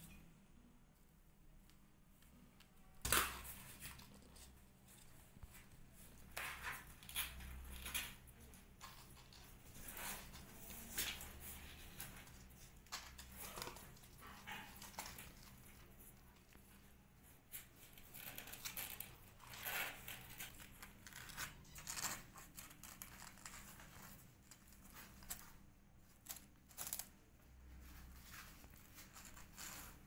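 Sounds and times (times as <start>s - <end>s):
kittens rustling and scratching: 3.4s - 30.0s.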